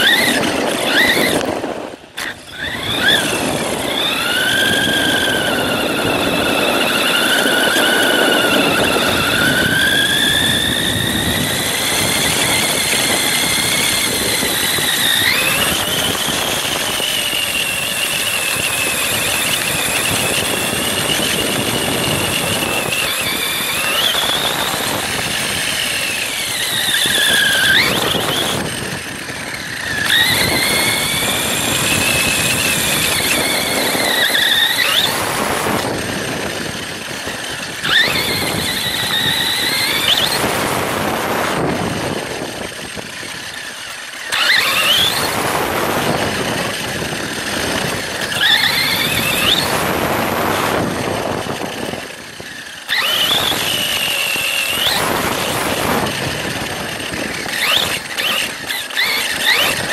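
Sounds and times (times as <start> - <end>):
toy truck motor whining: 0.0 - 59.9
tyres rumbling on gravel: 0.0 - 59.9.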